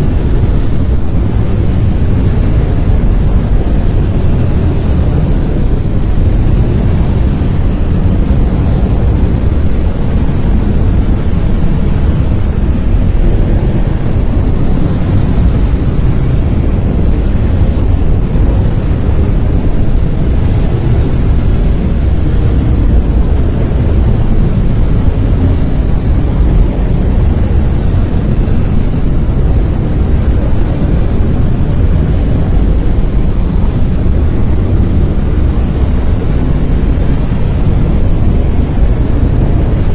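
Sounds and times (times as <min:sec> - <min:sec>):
deep rushing brown noise: 0:00.0 - 0:39.9.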